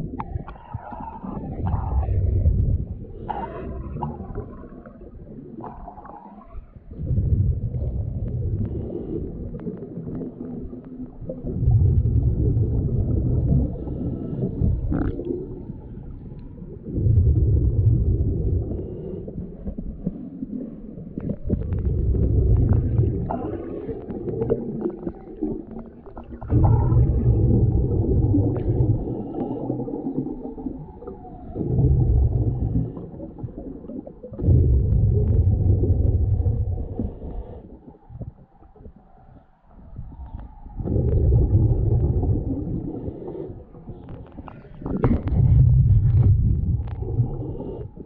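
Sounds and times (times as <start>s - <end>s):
diver exhaling bubbling rumble: 0.0s - 39.2s, 39.9s - 48.0s.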